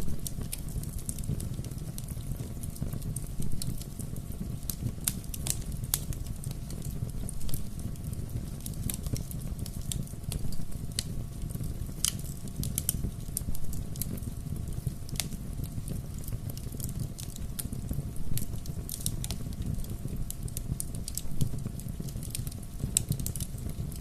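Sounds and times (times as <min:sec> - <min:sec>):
bonfire burning: 0:00.0 - 0:24.0.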